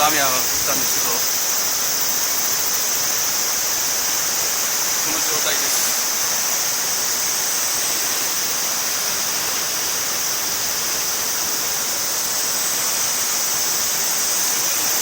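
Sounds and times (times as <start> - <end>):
flooded river water rushing: 0.0 - 15.0.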